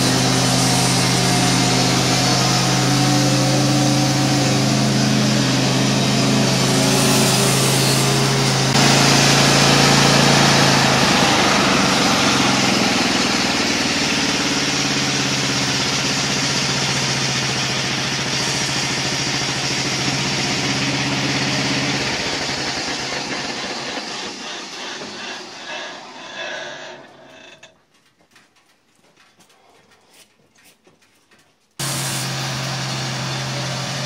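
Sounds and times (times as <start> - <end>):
band blade sawing log: 0.0 - 27.7
sawmill engine droning: 0.0 - 28.1, 31.8 - 34.0.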